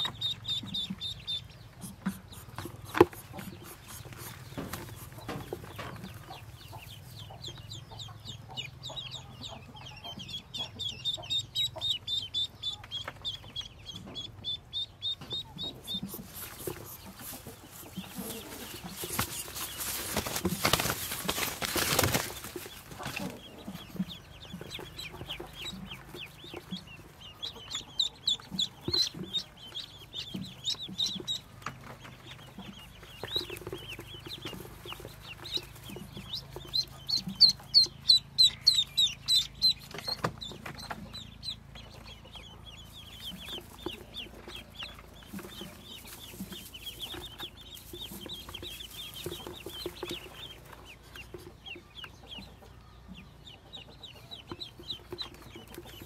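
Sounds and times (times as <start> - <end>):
ducklings peeping: 0.0 - 56.0.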